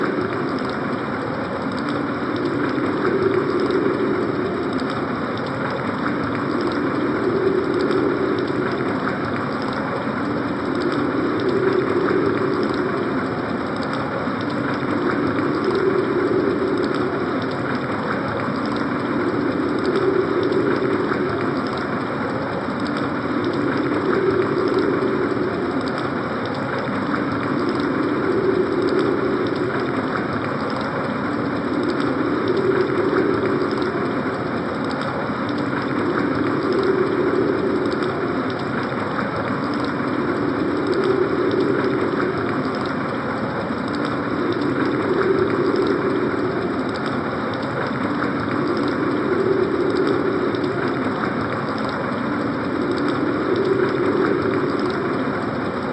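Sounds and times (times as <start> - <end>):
synthesized wind effect: 0.0 - 55.9.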